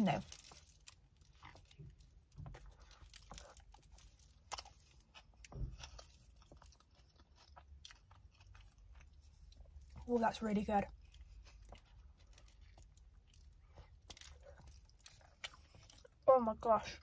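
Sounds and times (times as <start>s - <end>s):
biting and chewing sandwich: 0.2s - 10.1s, 10.9s - 16.2s.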